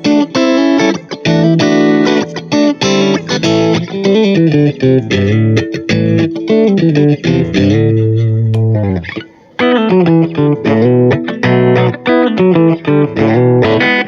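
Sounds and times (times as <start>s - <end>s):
electric guitar melodic run: 0.0s - 14.0s.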